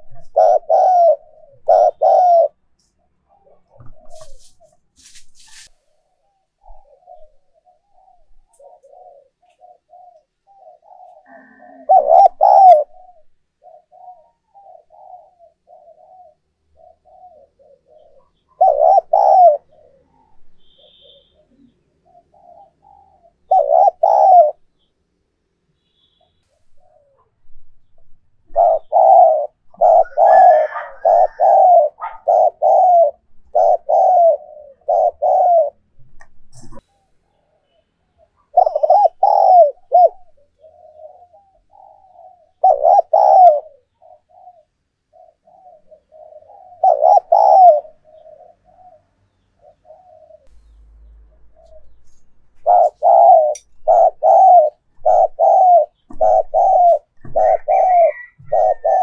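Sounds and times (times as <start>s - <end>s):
dove cooing: 0.0s - 4.8s, 6.3s - 24.9s, 26.8s - 59.0s.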